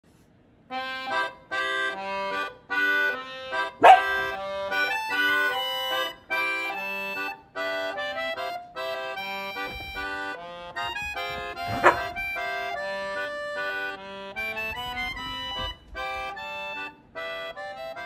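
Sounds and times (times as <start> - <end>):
accordion music: 0.7 - 18.0.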